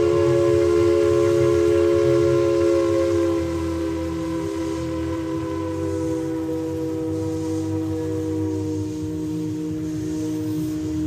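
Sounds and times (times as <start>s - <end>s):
steam locomotive whistle: 0.0s - 11.0s.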